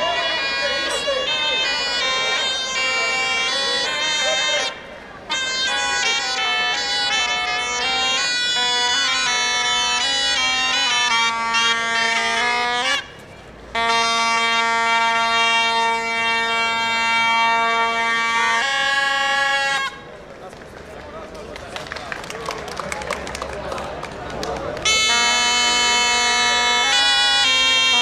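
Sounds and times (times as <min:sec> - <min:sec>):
bagpipes playing a tune: 0:00.0 - 0:20.0, 0:24.8 - 0:28.0.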